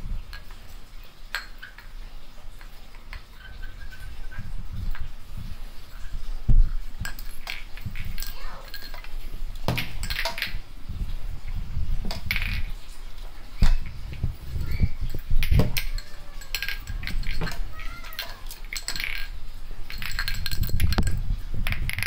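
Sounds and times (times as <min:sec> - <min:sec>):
household objects clicking and knocking: 0:00.3 - 0:05.2, 0:06.5 - 0:10.7, 0:12.0 - 0:13.0, 0:13.6 - 0:22.0.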